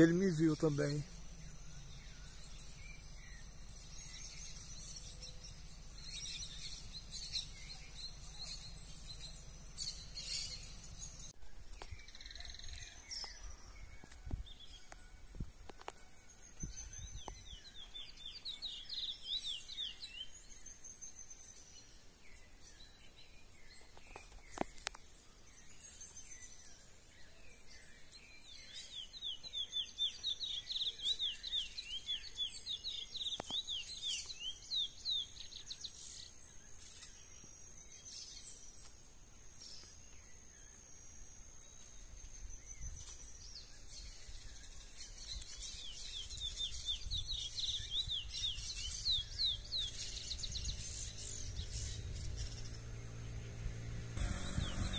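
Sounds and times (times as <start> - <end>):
bird singing whistled notes: 0.0 - 15.2, 16.3 - 24.6, 25.5 - 38.7, 39.6 - 54.9.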